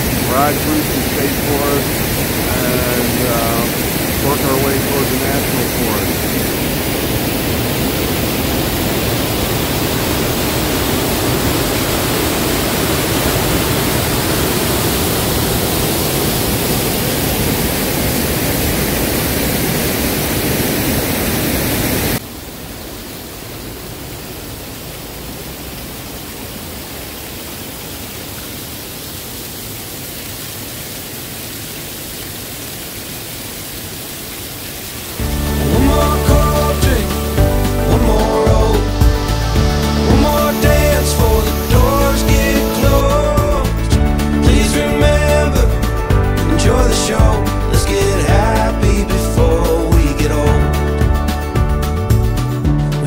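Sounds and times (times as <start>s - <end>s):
water rushing over waterfall: 0.0s - 50.9s
water falling from small waterfall: 0.0s - 53.0s.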